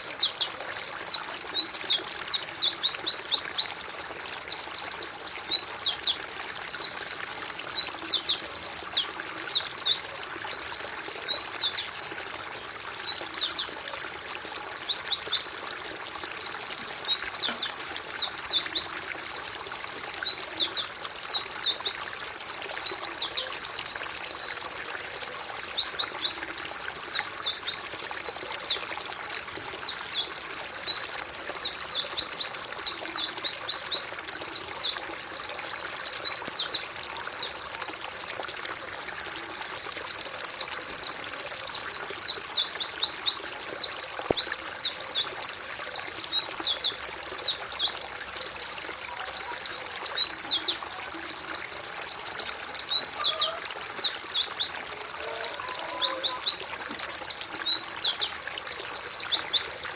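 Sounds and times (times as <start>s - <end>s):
flock of birds chirping: 0.0s - 59.9s.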